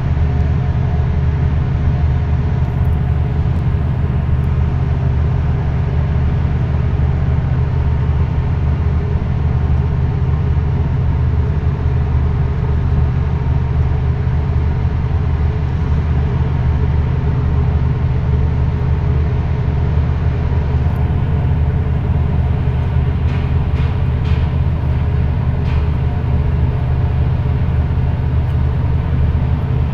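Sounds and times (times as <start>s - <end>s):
diesel engine drone: 0.0s - 29.9s.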